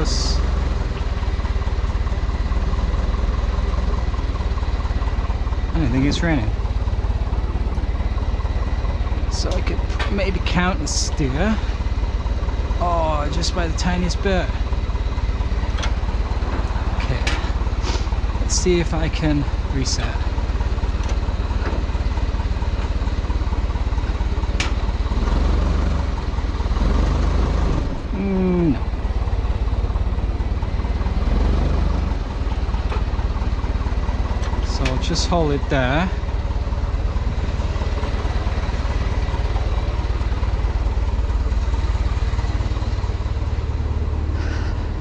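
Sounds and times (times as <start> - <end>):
forklift engine idling: 0.0 - 45.0.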